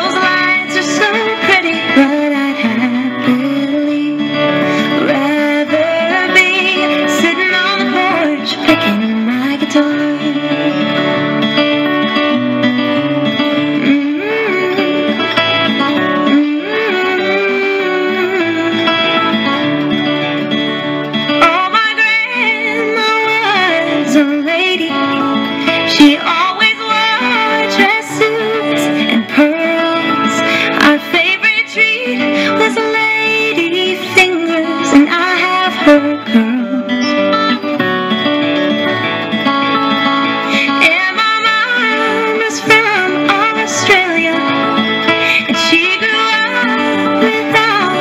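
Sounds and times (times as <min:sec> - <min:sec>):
country backing band: 0:00.0 - 0:48.0
lead guitar melody: 0:00.0 - 0:48.0.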